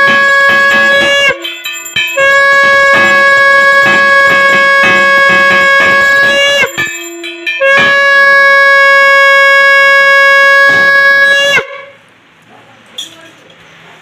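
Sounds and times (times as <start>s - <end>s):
conch shell blown: 0.0s - 12.0s.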